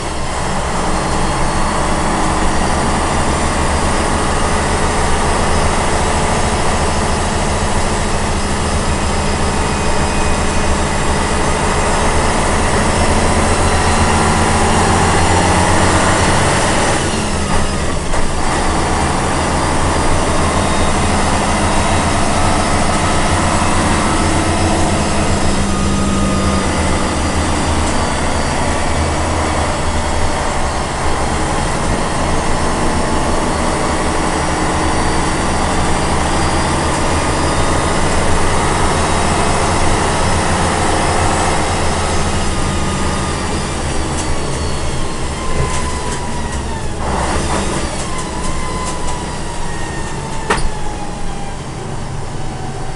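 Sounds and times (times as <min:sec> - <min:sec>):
truck engine drone with whine: 0:00.0 - 0:52.9.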